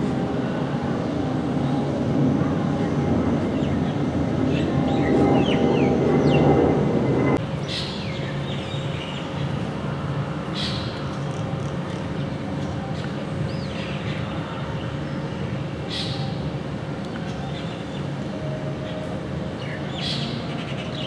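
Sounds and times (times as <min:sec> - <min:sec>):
jet airliner engines: 0:00.0 - 0:21.0
steady background hum: 0:00.0 - 0:21.0.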